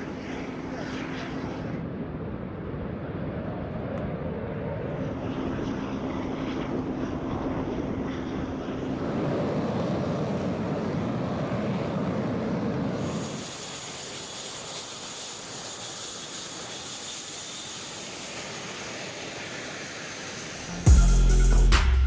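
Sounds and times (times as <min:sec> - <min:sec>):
jet aircraft rumble: 0:00.0 - 0:22.0
jet engine hiss and whine: 0:00.0 - 0:22.0.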